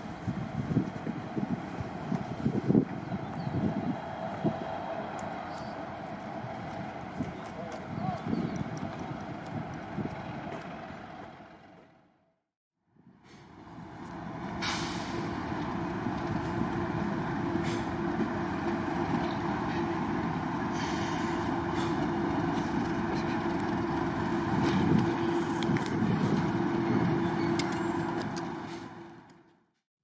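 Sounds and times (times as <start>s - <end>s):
diesel locomotive engine drone: 0.0s - 29.8s.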